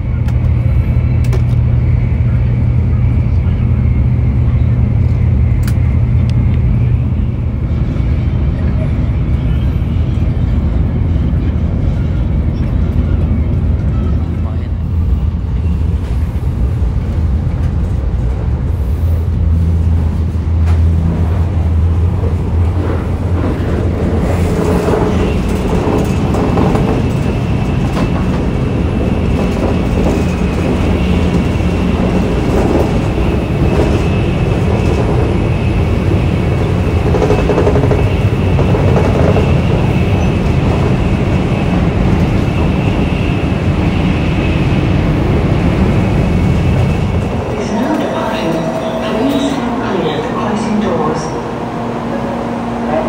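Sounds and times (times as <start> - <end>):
train rumble and rush: 0.0 - 53.0.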